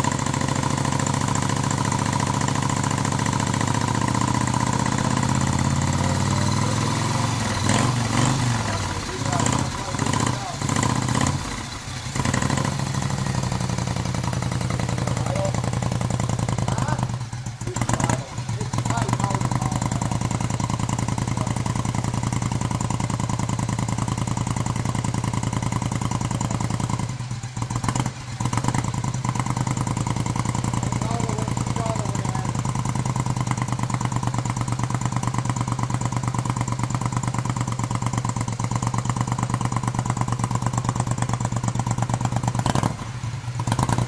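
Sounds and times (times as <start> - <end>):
motorcycle engine pulsing exhaust: 0.0 - 44.0.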